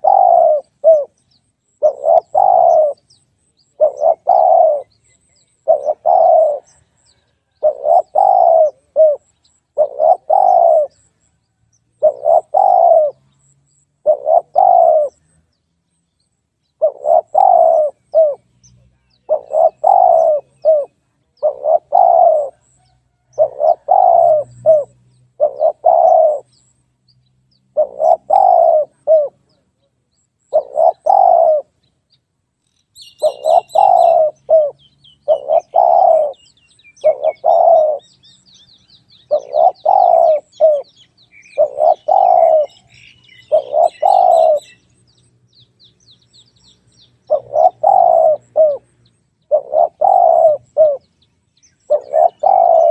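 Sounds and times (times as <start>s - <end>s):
dove cooing: 0.0s - 1.2s, 1.8s - 11.2s, 12.0s - 15.4s, 16.8s - 26.6s, 27.7s - 29.7s, 30.5s - 31.8s, 33.0s - 44.8s, 47.2s - 51.1s, 51.9s - 52.9s
small birds chirping: 0.0s - 52.9s.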